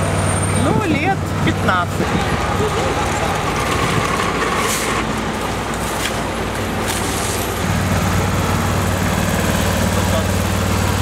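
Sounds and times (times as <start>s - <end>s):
road roller engine running: 0.0s - 11.0s
roadwork noise: 0.0s - 11.0s
street traffic: 0.0s - 11.0s.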